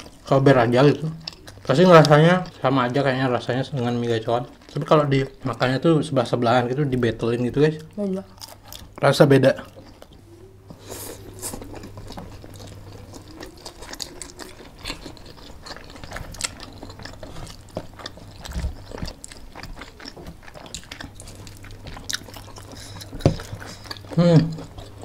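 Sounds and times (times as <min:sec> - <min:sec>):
people chewing noodles: 0:00.0 - 0:25.0.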